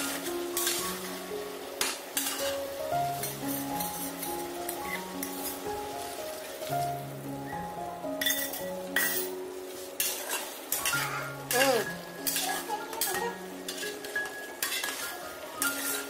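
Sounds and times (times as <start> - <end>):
metal spatula scraping a wok: 0.0 - 1.1, 1.8 - 6.1, 8.2 - 16.0
light sizzle: 0.0 - 16.0
soft background music: 0.0 - 16.0.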